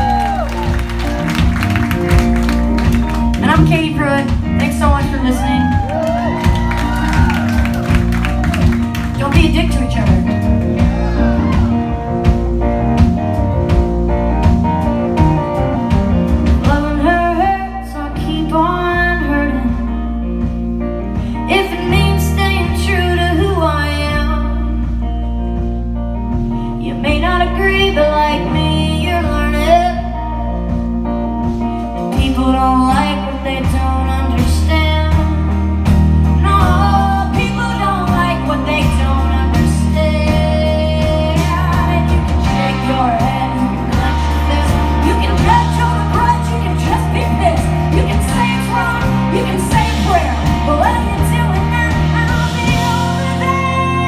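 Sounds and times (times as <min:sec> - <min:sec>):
drum kit: 0:00.0 - 0:54.0
electric bass: 0:00.0 - 0:54.0
electric guitar: 0:00.0 - 0:54.0
woman singing lead: 0:03.4 - 0:12.4, 0:15.9 - 0:25.2, 0:26.6 - 0:30.8, 0:32.0 - 0:54.0.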